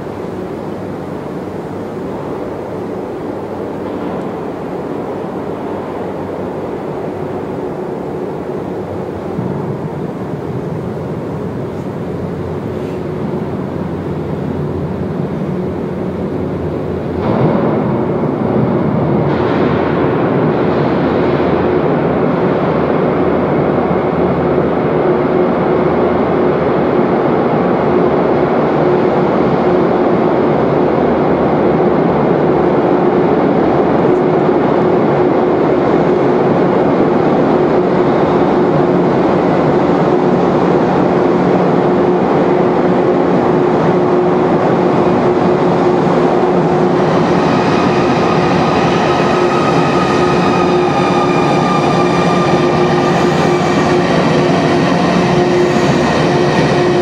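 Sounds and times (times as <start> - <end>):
train rumbling in tunnel: 0.0 - 57.0.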